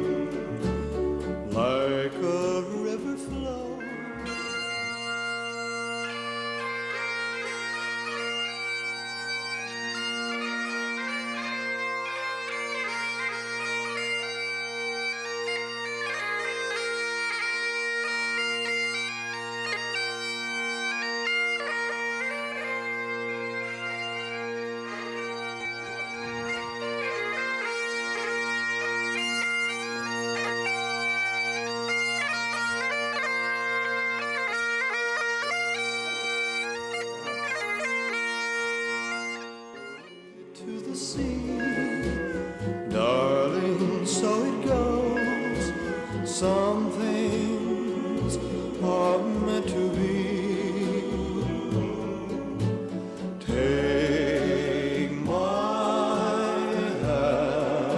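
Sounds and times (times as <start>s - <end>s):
bagpipe drones: 0.0s - 57.9s
bagpipes playing a melody: 0.0s - 57.9s.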